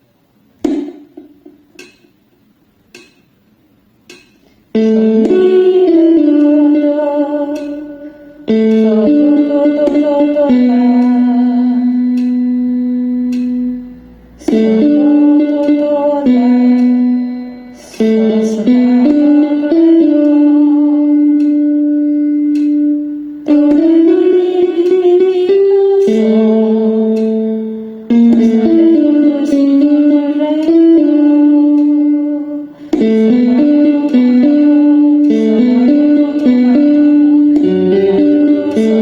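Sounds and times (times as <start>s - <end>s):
plucked string accompaniment: 0.6s - 2.2s, 4.0s - 39.0s
woman singing: 4.8s - 12.8s, 14.4s - 39.0s.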